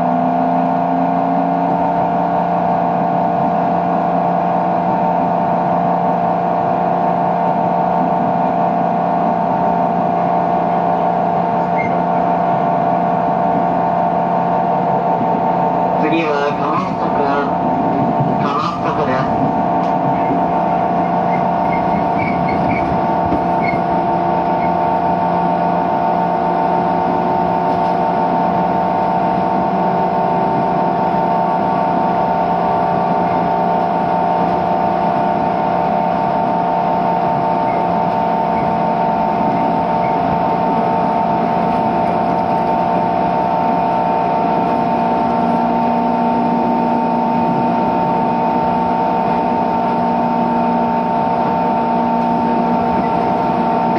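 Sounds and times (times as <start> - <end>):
motor-generator whining: 0.0 - 53.9
train running noise: 0.0 - 53.9.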